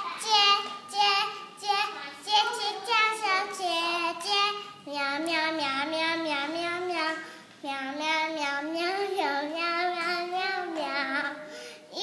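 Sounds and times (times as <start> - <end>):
girl singing: 0.0 - 12.0.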